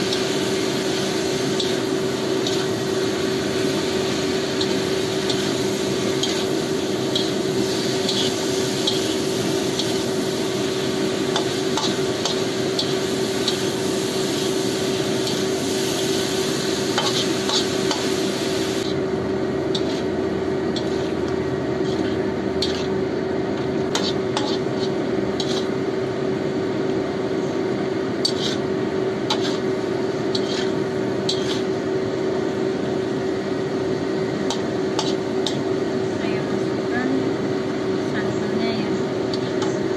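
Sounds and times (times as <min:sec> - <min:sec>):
light sizzling: 0:00.0 - 0:19.0, 0:19.7 - 0:39.9
spatula scraping wok: 0:00.0 - 0:19.1, 0:19.7 - 0:25.9, 0:27.6 - 0:36.0, 0:39.0 - 0:39.9.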